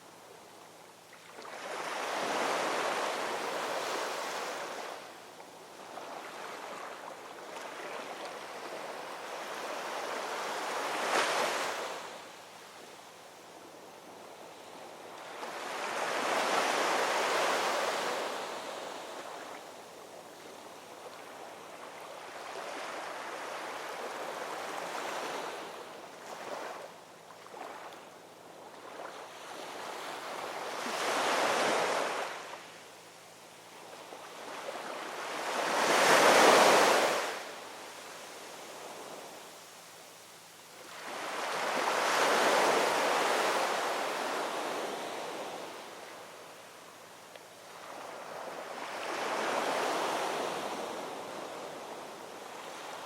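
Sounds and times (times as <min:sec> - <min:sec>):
ocean waves breaking on shore: 0:01.2 - 0:05.1, 0:05.7 - 0:12.3, 0:14.4 - 0:32.8, 0:33.8 - 0:39.4, 0:40.8 - 0:46.6, 0:47.7 - 0:53.0.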